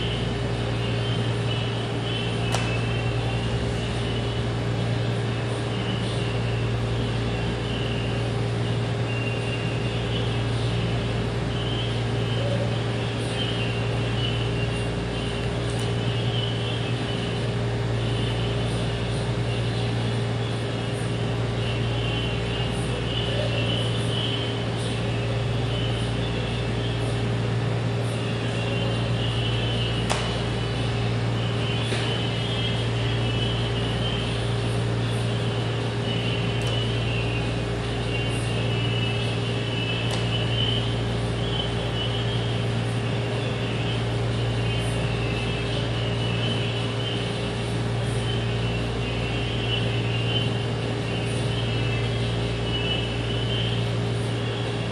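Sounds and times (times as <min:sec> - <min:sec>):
low mechanical hum with hiss: 0:00.0 - 0:54.9.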